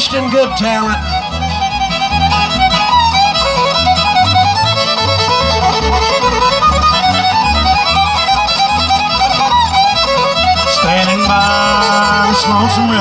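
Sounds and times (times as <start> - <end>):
fiddle quick melody: 0.0 - 13.0
upright bass steady pulse: 0.0 - 13.0.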